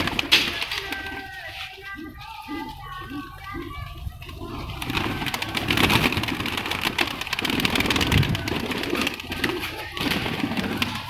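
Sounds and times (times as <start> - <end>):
pigeon wings fluttering: 0.0 - 11.0
pigeons cooing: 0.0 - 11.0.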